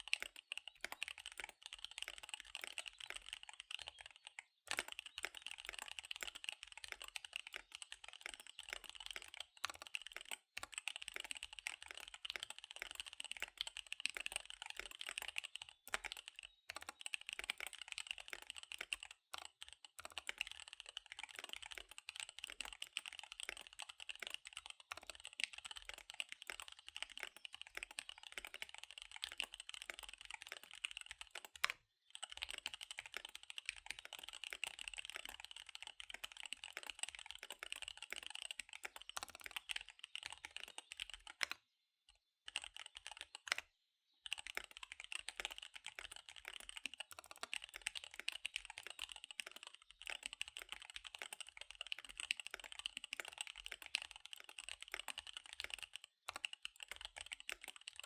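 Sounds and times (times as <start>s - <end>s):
fast typing on mechanical keyboard: 0.0s - 41.6s, 42.4s - 43.6s, 44.2s - 58.0s.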